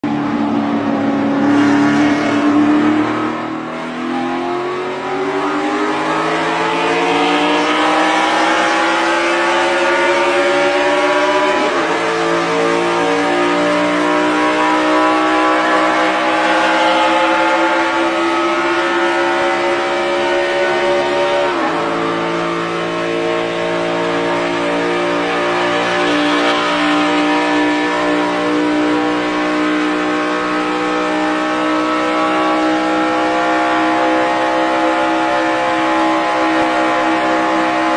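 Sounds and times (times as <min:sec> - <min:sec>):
race car engine at high revs: 0:00.0 - 0:37.9.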